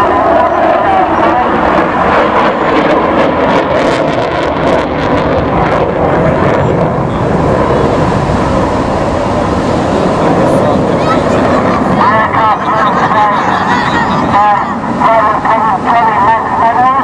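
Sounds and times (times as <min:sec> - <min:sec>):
jet engine rushing overhead: 0:00.0 - 0:17.0
wind buffeting microphone: 0:00.0 - 0:17.0.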